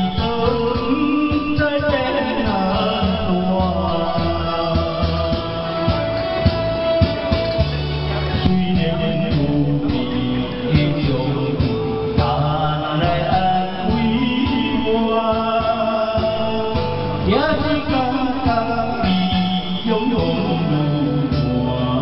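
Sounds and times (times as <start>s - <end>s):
man singing: 0.0s - 22.0s
music with beat and bass: 0.0s - 22.0s.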